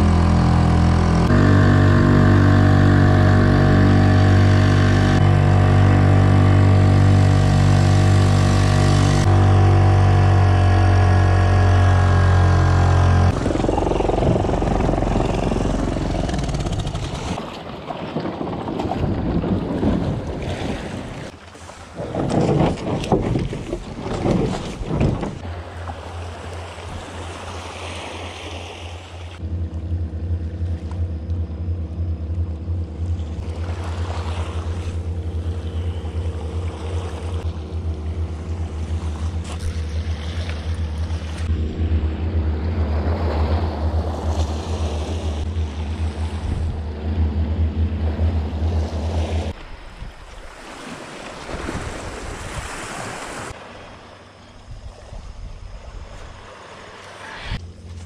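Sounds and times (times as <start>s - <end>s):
waves washing: 0.0s - 32.1s, 33.0s - 58.0s
outboard motor running: 0.0s - 49.6s
wind: 0.0s - 58.0s.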